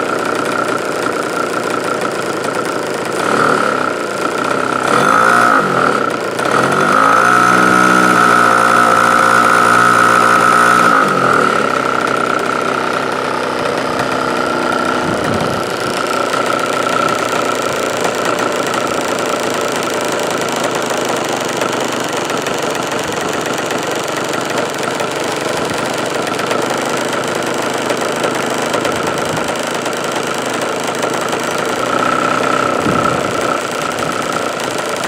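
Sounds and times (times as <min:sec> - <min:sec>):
model airplane engine buzzing: 0:00.0 - 0:35.0.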